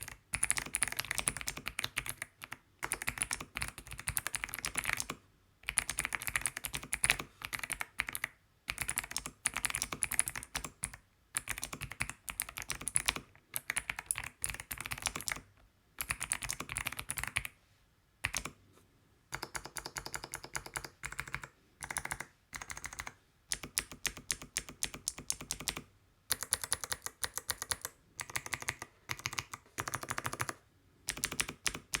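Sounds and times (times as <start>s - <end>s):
fast typing on mechanical keyboard: 0.0s - 17.5s, 18.2s - 18.5s, 19.3s - 32.0s.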